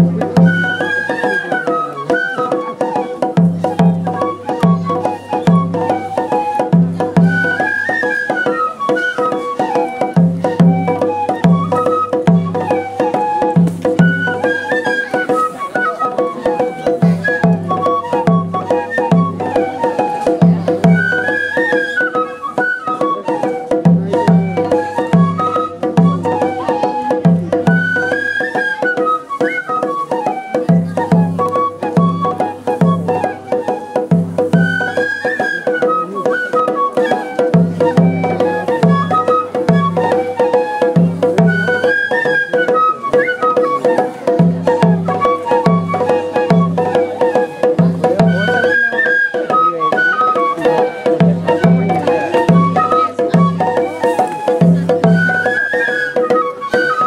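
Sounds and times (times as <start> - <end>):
bamboo flutes playing melody: 0.0 - 57.0
taiko drum beats: 0.0 - 57.0.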